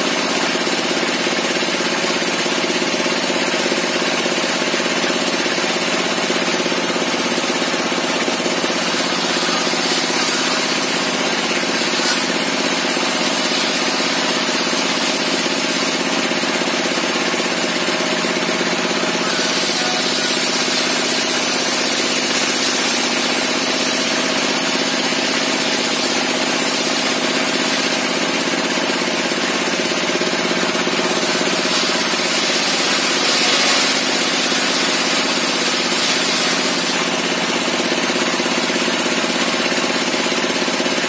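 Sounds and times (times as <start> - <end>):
table saw running: 0.0 - 41.0.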